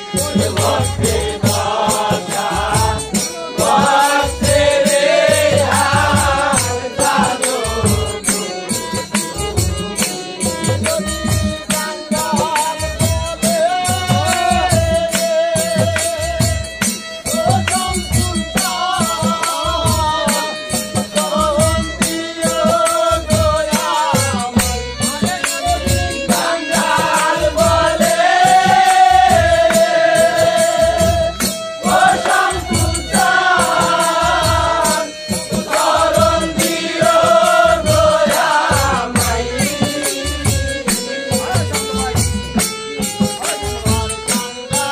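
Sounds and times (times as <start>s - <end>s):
low beat with rattling percussion: 0.0s - 44.9s
men singing in unison: 0.0s - 44.9s.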